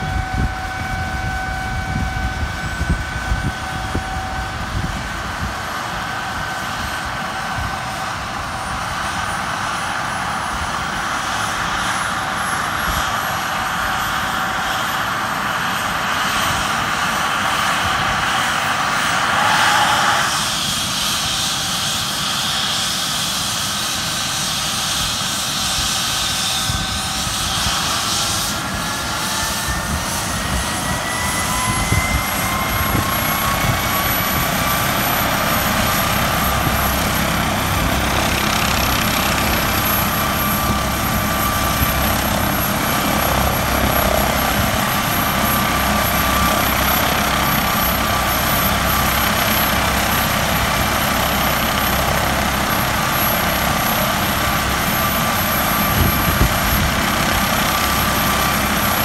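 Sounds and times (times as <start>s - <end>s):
helicopter rotor low beat: 0.0s - 59.0s
turbine whine: 0.0s - 59.0s.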